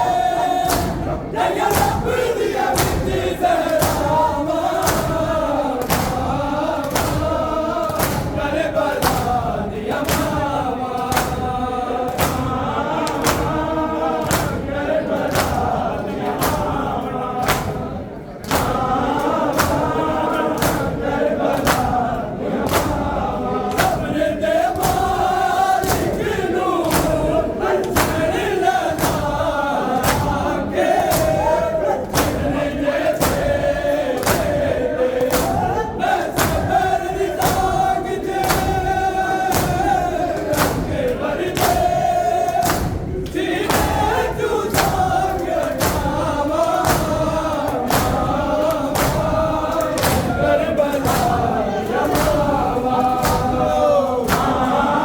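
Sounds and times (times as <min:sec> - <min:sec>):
men chanting a lament: 0:00.0 - 0:55.0
rhythmic chest-beating strikes: 0:00.0 - 0:55.0.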